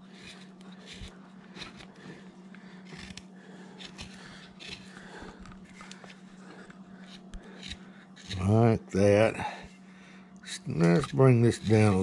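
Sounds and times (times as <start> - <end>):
low hum: 0.0 - 12.0
gouge scraping wood: 0.1 - 8.7, 10.5 - 12.0.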